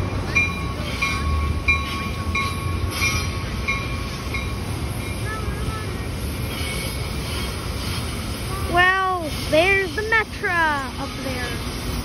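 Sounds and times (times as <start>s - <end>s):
train rumbling over bridge: 0.0s - 12.0s.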